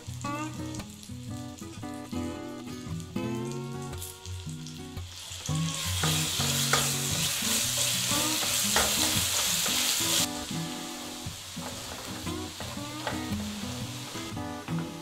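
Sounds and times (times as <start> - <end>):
garlic sizzling in butter: 0.0 - 15.0.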